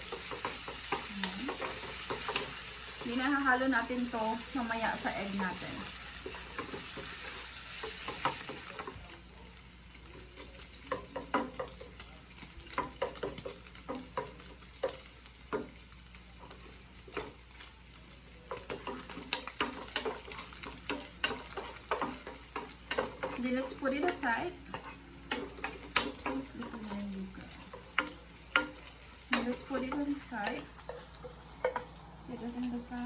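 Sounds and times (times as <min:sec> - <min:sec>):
utensil scraping in a pan: 0:00.0 - 0:09.2, 0:10.2 - 0:33.0
bacon sizzling in a frying pan: 0:00.0 - 0:33.0.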